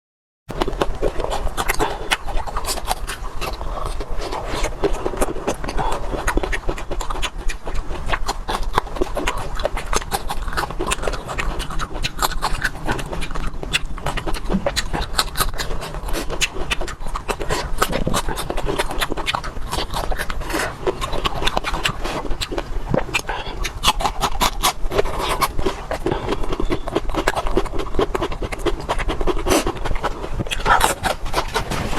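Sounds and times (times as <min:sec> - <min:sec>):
chewing crunchy chillies: 0:00.5 - 0:31.9
wet mouth smacks: 0:00.5 - 0:31.9.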